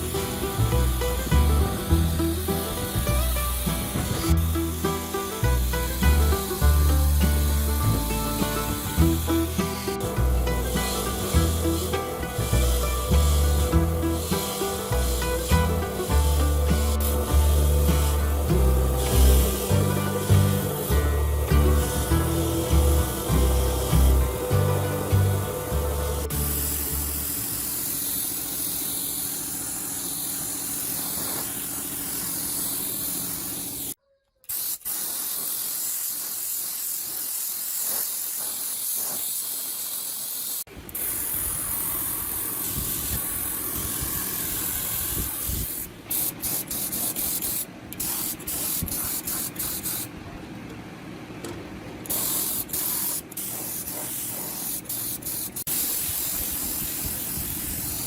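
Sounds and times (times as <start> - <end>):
spraying hiss: 0.0 - 50.2, 52.0 - 58.0.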